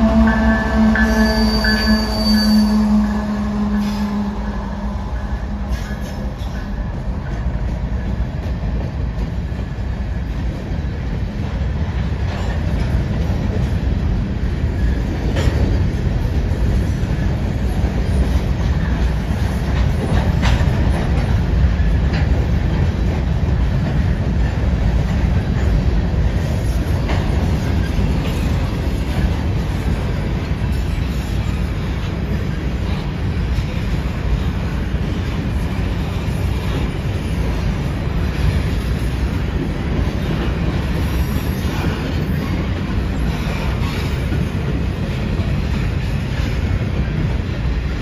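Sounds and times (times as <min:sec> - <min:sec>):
freight train wheels rumbling: 0:00.0 - 0:48.0
train wheels clicking and clacking: 0:00.0 - 0:48.0.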